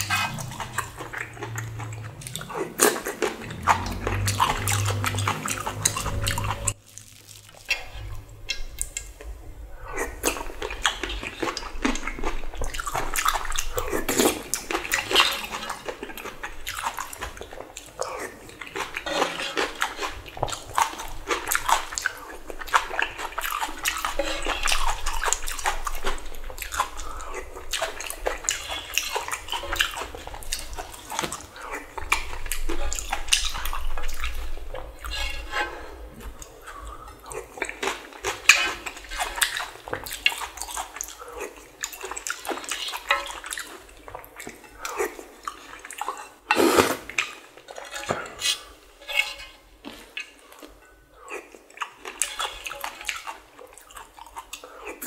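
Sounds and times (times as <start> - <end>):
slurping and chewing noodles: 0.0 - 55.0.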